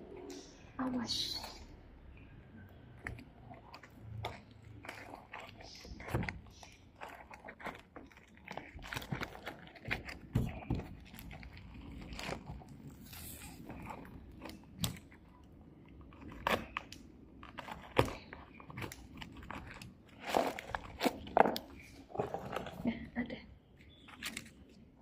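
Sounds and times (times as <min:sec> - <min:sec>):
packaging crackling and clicking: 0:02.9 - 0:23.0, 0:23.8 - 0:25.0.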